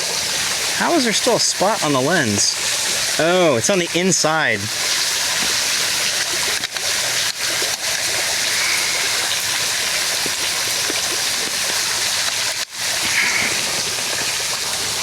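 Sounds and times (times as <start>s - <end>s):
waterfall splashing over rocks: 0.0s - 15.0s.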